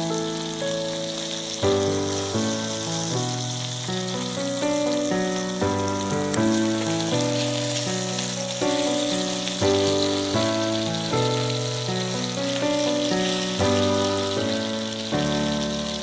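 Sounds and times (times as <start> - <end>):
chicken and onion sizzling in pan: 0.0 - 16.0
instrumental background music: 0.0 - 16.0.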